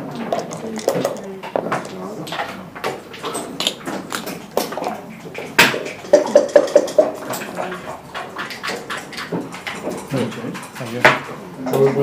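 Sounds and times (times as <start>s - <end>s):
backgammon checkers clacking: 0.0s - 12.0s.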